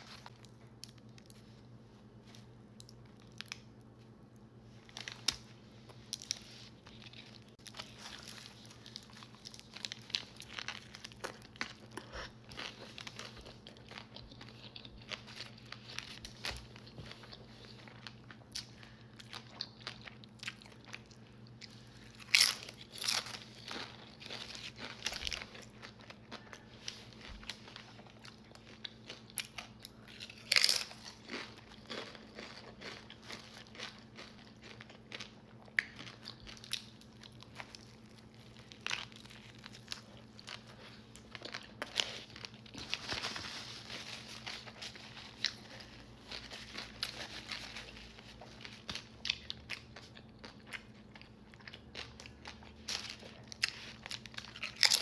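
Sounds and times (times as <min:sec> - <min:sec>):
crunchy bites and chewing: 0:06.1 - 0:43.2, 0:44.3 - 0:55.0.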